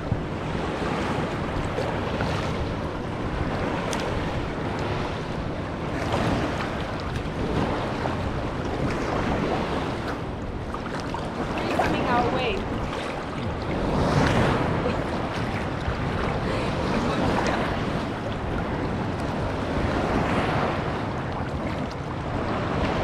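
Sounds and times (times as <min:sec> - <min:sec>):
ocean surf washing: 0:00.0 - 0:23.0
wind buffeting microphone: 0:00.0 - 0:23.0.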